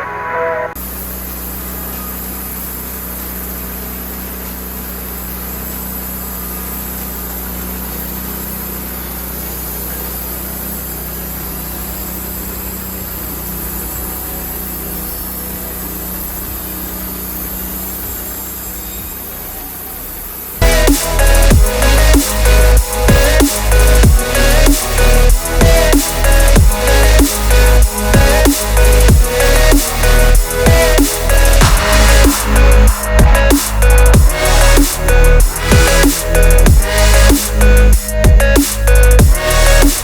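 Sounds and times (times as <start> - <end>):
sawmill running: 0.0 - 40.0.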